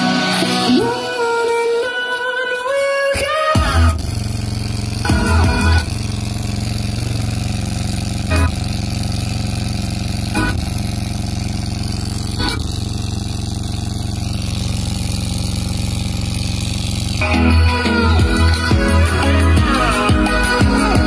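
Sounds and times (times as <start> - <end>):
electrical buzzing hum: 3.6 - 21.0.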